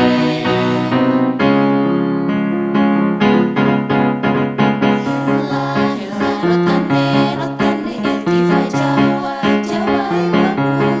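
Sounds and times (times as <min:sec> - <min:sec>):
piano playing repeated chords: 0:00.0 - 0:11.0.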